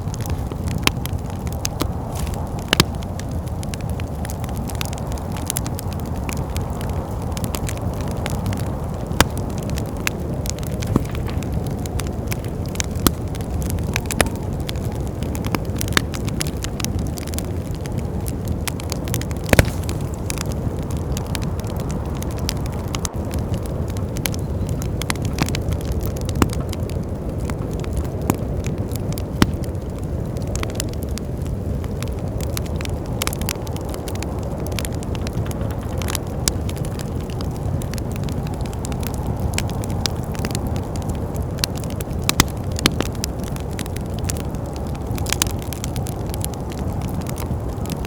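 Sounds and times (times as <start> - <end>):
low rush of wind: 0.0 - 48.0
wood fire crackling and popping: 0.0 - 48.0.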